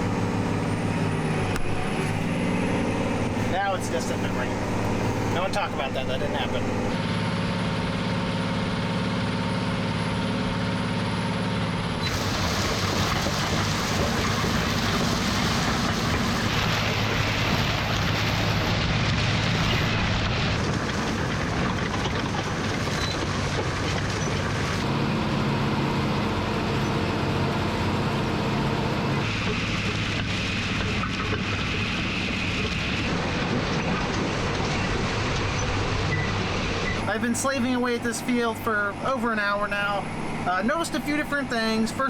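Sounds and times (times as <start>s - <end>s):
tractor engine running under load: 0.0s - 42.0s.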